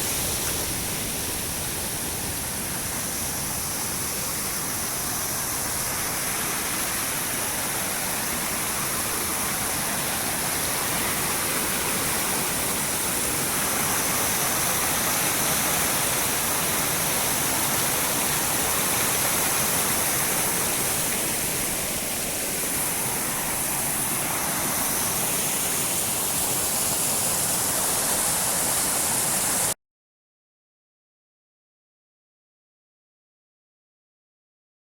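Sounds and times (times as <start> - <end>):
water pouring over small dam: 0.0 - 29.7.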